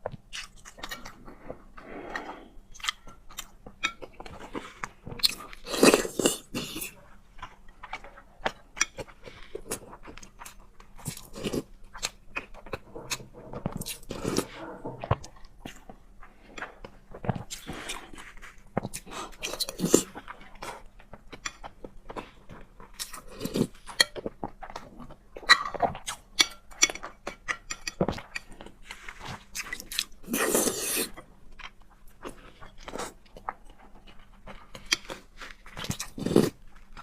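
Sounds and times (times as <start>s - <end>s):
wet chewing and mouth smacks: 0.0s - 37.0s.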